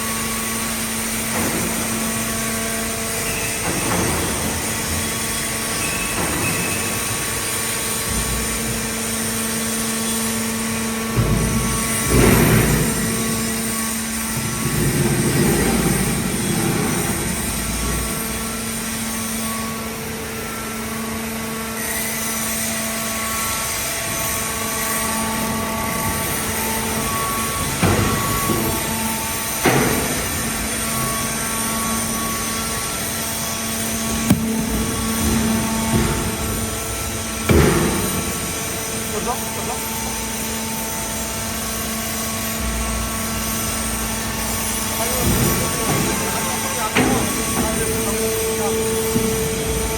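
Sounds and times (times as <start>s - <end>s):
hydraulic unit humming: 0.0s - 49.9s.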